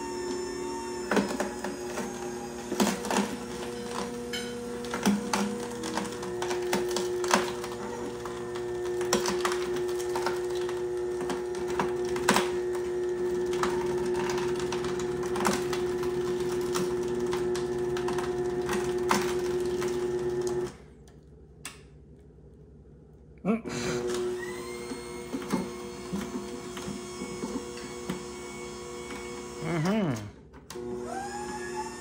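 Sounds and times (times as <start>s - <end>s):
juicer motor humming: 0.0s - 20.8s, 23.7s - 32.0s.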